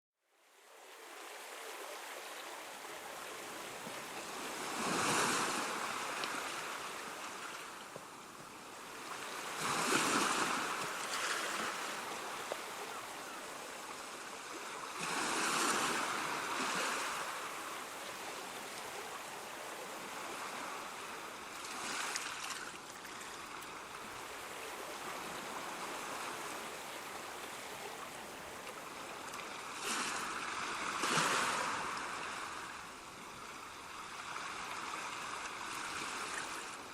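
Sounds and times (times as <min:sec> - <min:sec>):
sea waves breaking: 0:00.8 - 0:36.9.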